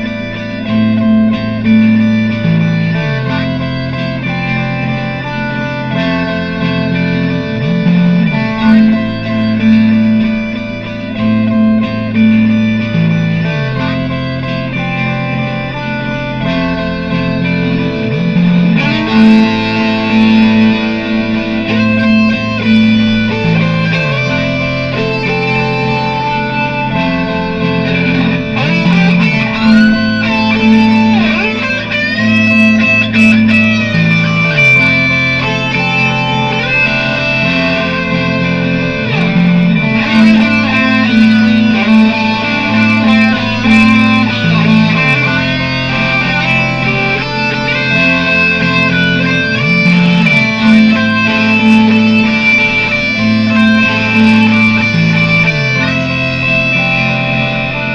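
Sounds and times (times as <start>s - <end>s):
electric guitar solo: 0.0s - 57.9s
looped guitar layers: 0.0s - 57.9s.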